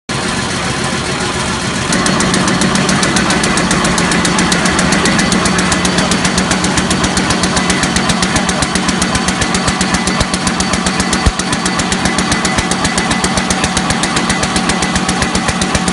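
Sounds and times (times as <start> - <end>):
rapid clicking of machine parts: 1.9 - 15.9.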